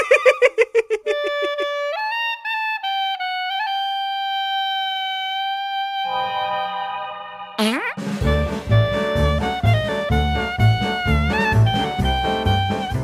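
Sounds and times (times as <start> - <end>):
comic woodwind melody: 1.1 - 13.0.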